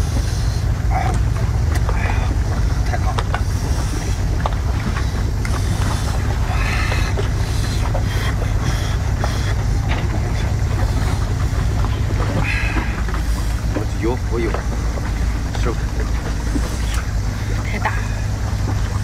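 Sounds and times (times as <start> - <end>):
chewing: 0.0 - 19.0
steady low rumble: 0.0 - 19.0.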